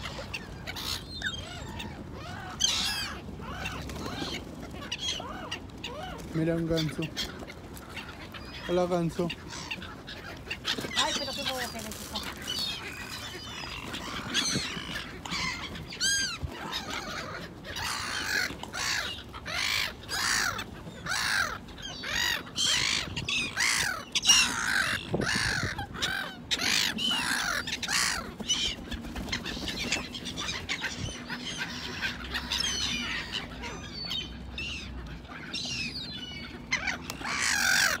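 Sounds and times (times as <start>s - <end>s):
gulls calling: 0.0s - 38.0s.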